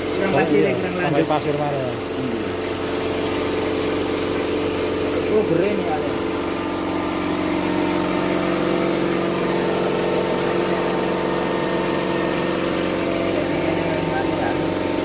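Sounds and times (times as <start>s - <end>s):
motor and pump hum: 0.0s - 15.0s.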